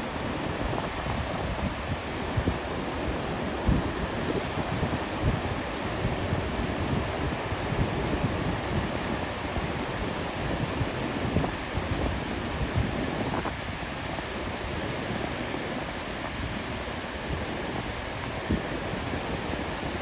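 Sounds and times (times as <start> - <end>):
ocean surf washing: 0.0 - 20.0
wind buffeting microphone: 0.0 - 20.0.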